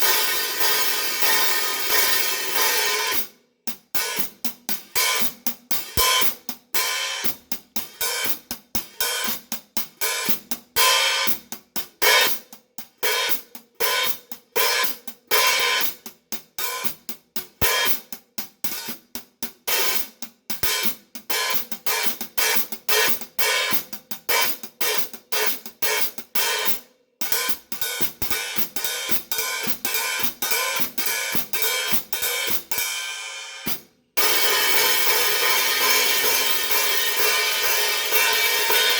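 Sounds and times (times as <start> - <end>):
hi-hats played with sticks: 0.0 - 38.9.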